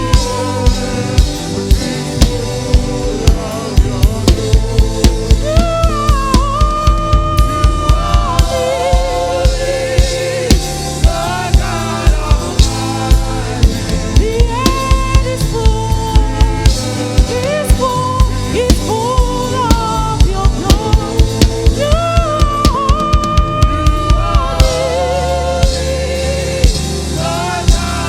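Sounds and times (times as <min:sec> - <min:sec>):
drum kit steady beat: 0:00.0 - 0:28.0.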